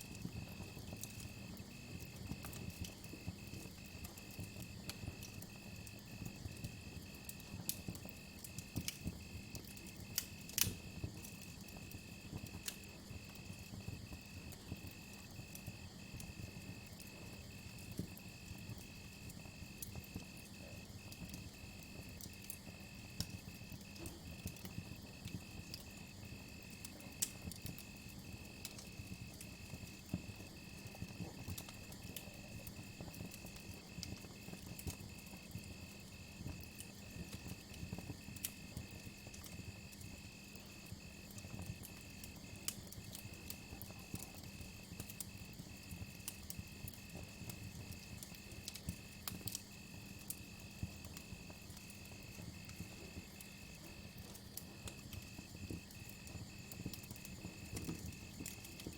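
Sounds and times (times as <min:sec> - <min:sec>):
campfire crackling and popping: 0:00.0 - 0:58.9.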